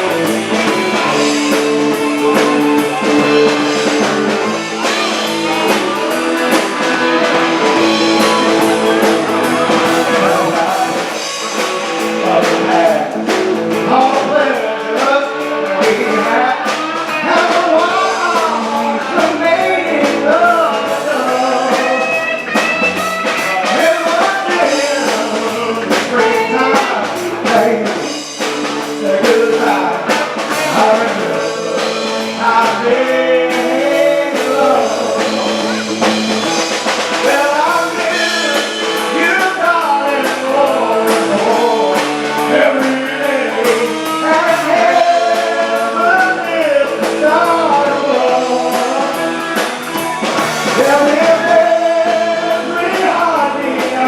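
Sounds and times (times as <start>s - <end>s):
guitar: 0.0s - 54.0s
live rock band playing: 0.0s - 54.0s
person singing: 0.0s - 54.0s.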